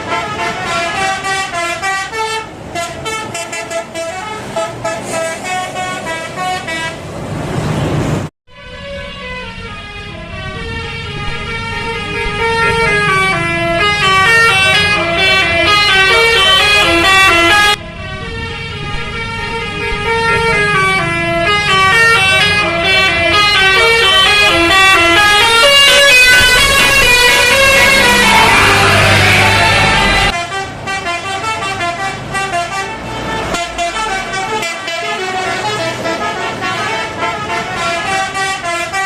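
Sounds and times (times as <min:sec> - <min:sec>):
multi-tone bus horn melody: 0:00.0 - 0:07.1, 0:08.5 - 0:39.0
engine rumble: 0:02.5 - 0:38.8.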